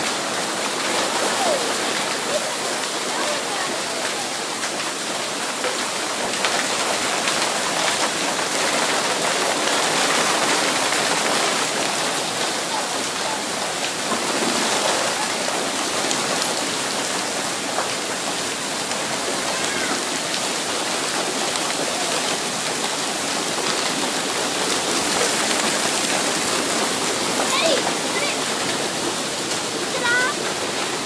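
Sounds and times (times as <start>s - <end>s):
hail and heavy rain pelting: 0.0s - 31.0s.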